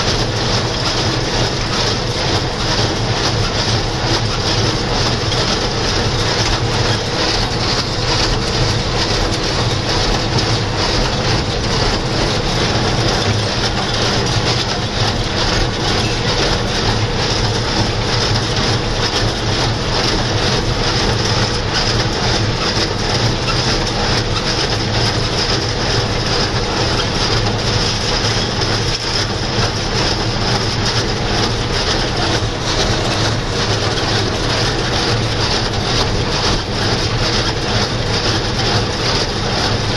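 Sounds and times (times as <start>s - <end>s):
hay baler mechanical clatter: 0.0s - 39.9s
tractor diesel engine running: 0.0s - 39.9s.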